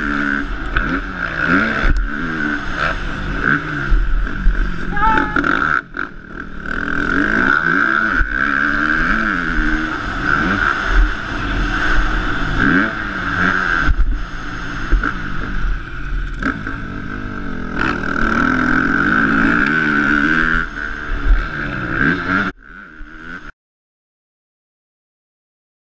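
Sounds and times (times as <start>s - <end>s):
motocross bike engine revving: 0.0s - 23.5s.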